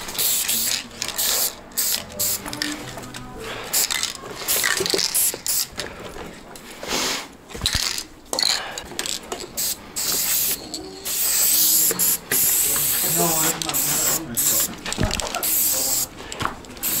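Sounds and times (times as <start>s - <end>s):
spray-paint cans hissing: 0.0s - 5.8s, 7.0s - 16.2s, 16.8s - 17.0s
spray cans rattling when shaken: 0.0s - 6.0s, 7.5s - 17.0s.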